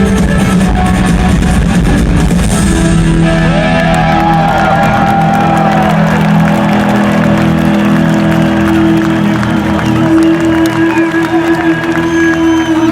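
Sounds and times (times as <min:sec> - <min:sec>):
rock band electric guitars: 0:00.0 - 0:12.9.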